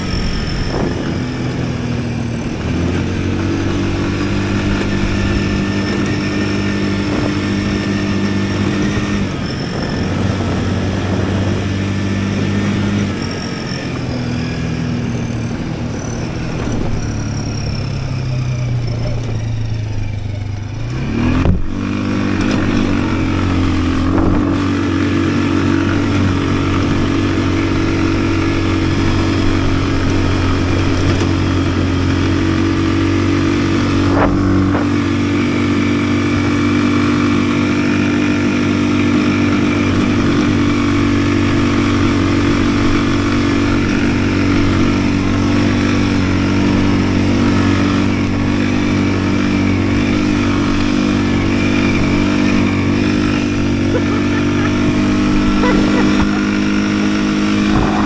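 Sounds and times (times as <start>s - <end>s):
atv engine humming: 0.0s - 58.0s.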